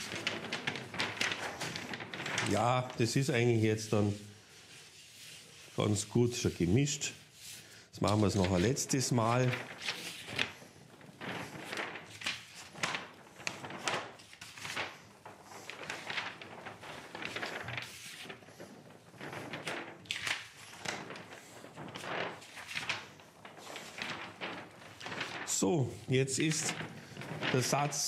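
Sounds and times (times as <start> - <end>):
paper rustling and crackling: 0.0 - 28.0.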